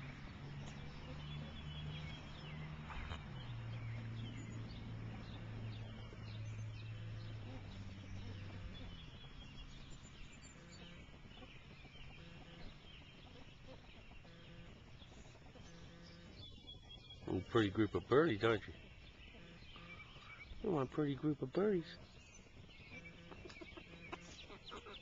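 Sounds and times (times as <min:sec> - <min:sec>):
steady low hum: 0:00.0 - 0:24.5
high bird chirps: 0:00.0 - 0:25.0.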